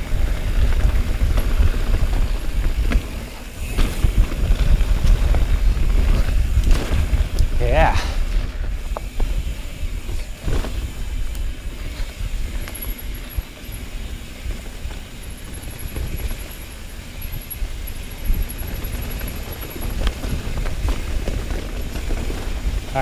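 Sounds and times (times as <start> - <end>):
bike tyre and frame rattle: 0.0 - 23.0
low wind rumble: 0.0 - 23.0.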